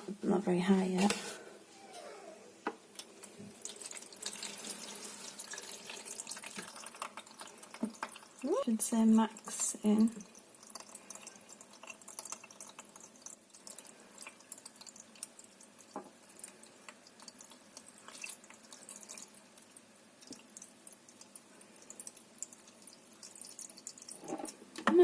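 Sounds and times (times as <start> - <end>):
water trickling and dripping: 3.0 - 25.0.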